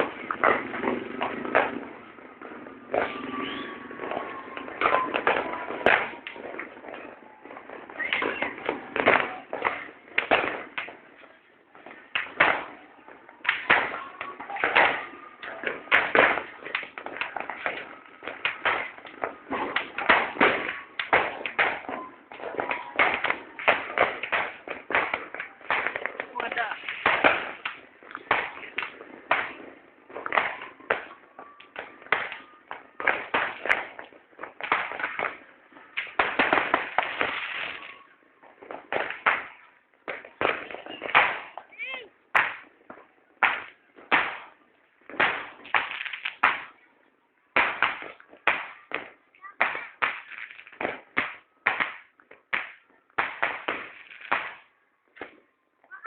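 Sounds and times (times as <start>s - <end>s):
fireworks banging: 0.0s - 56.0s.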